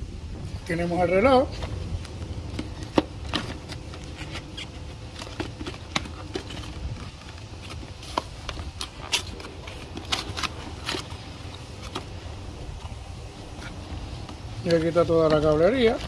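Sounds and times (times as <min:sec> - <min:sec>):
cardboard box crinkling and scraping: 0:02.5 - 0:16.0.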